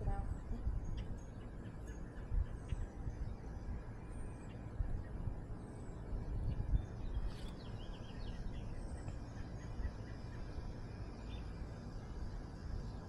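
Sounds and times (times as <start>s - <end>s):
low steady rumble: 0.0s - 13.0s
faint bird chirps: 0.1s - 13.0s.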